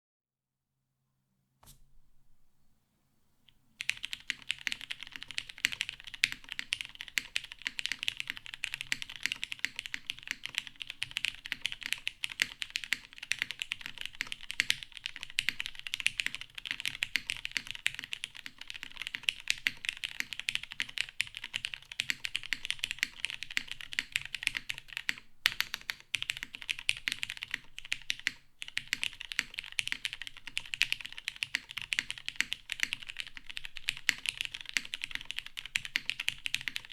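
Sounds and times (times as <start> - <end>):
fast typing on mechanical keyboard: 3.8 - 36.9.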